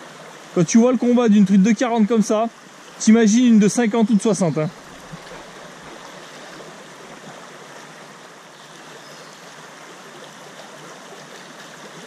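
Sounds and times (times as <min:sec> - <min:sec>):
water rushing over stones: 0:00.0 - 0:12.0.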